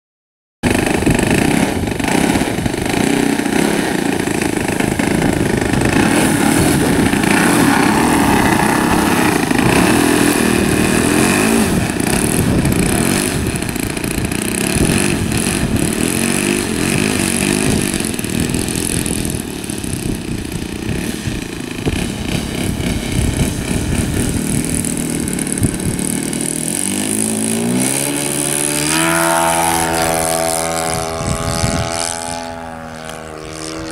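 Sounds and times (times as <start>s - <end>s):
model aircraft engine running: 0.6s - 33.9s.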